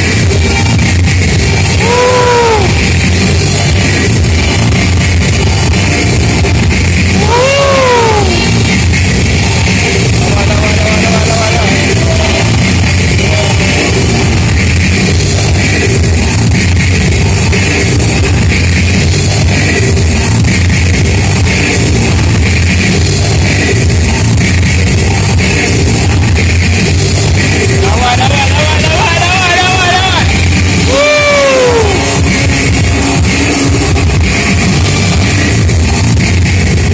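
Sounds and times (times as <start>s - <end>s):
loud rock music: 0.0s - 36.9s.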